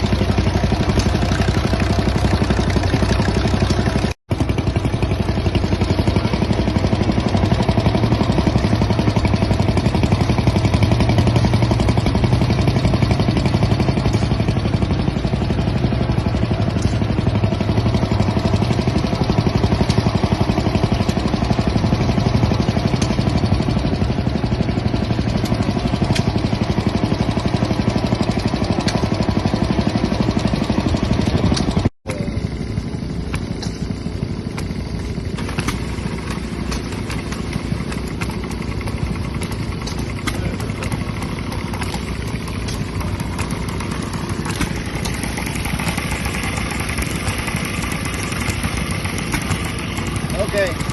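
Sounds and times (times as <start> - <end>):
old engine running: 0.0 - 50.9
quieter engine sound: 0.0 - 50.9.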